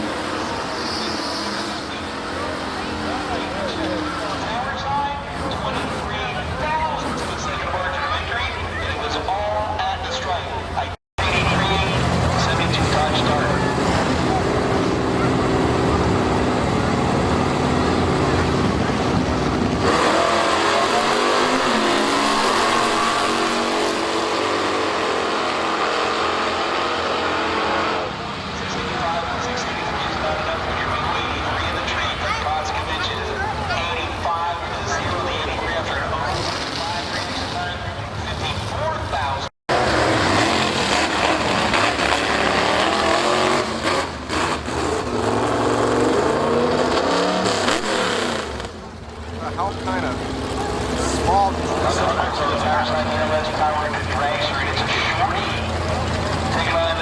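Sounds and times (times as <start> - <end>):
drag racing car engine: 0.0 - 57.0.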